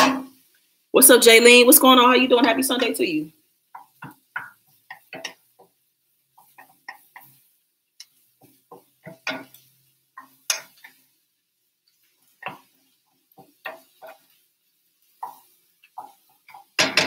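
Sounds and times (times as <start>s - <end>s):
wooden spatula scraping a skillet: 2.2s - 17.0s.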